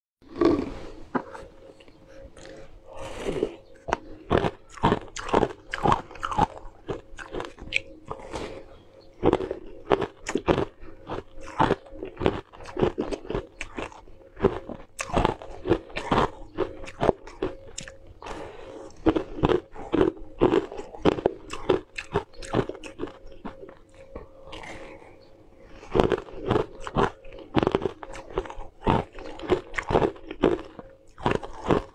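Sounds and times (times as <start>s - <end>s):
crunching frozen cubes: 0.3s - 31.9s.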